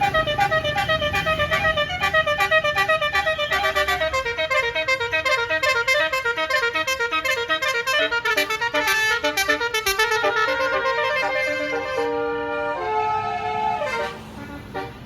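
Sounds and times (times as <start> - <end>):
multi-tone air horn melody: 0.0 - 15.0.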